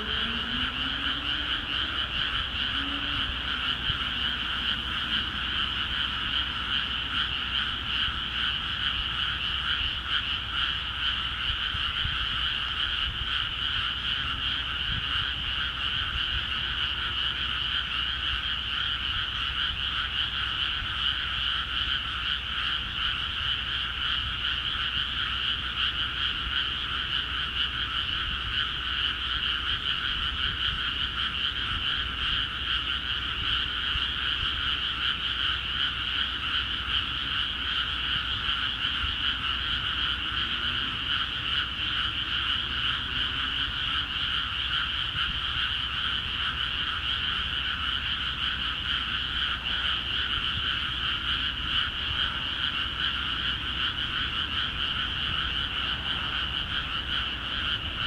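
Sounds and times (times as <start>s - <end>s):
chorus of frogs calling: 0.0s - 58.0s.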